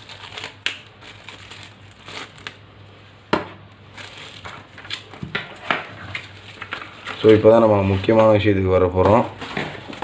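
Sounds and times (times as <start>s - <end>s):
packaging crinkling and rustling: 0.0s - 2.7s, 3.9s - 10.0s.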